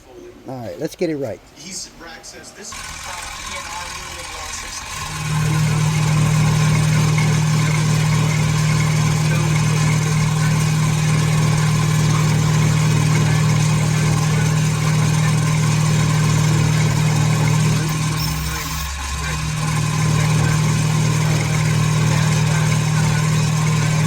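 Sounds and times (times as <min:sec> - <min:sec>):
machine humming: 0:02.6 - 0:24.0.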